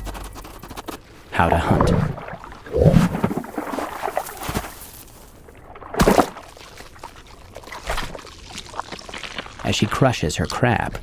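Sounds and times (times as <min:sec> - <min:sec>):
watery swishes and scuffles: 0:00.0 - 0:10.0.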